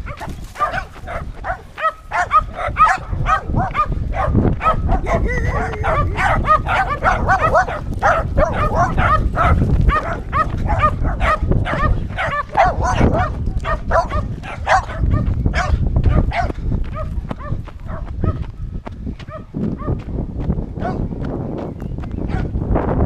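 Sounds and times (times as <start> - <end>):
dog barking: 0.0 - 18.4, 19.2 - 20.0, 20.8 - 21.0, 22.3 - 22.6.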